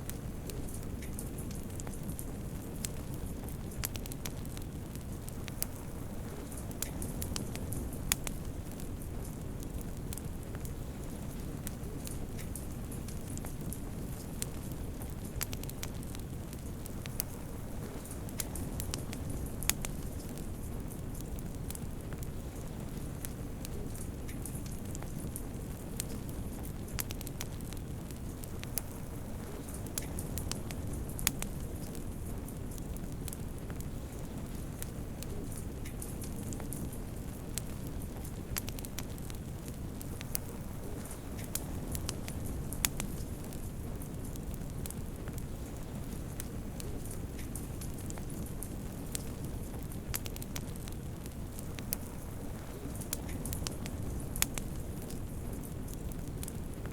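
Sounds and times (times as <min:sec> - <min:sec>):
fire pops and snaps: 0:00.0 - 0:56.9
low rumble of burning: 0:00.0 - 0:56.9.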